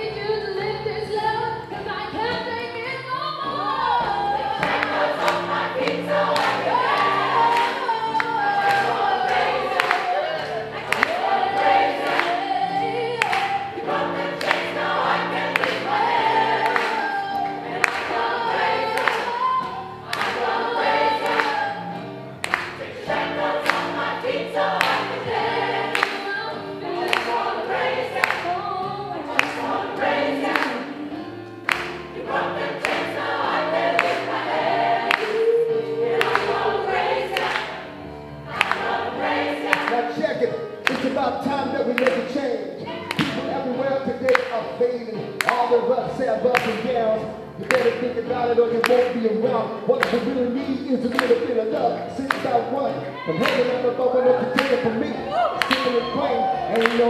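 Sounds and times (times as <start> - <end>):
choir singing over a beat: 1.3 - 57.0.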